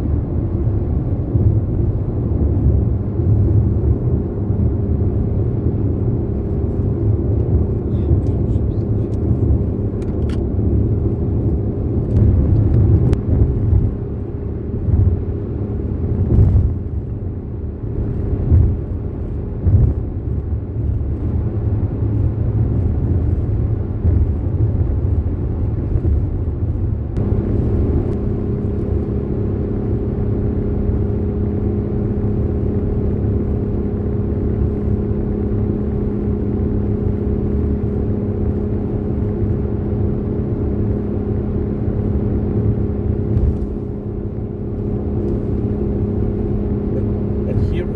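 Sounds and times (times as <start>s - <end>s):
car road noise rumble: 0.0s - 47.9s
constant hum: 0.0s - 47.9s.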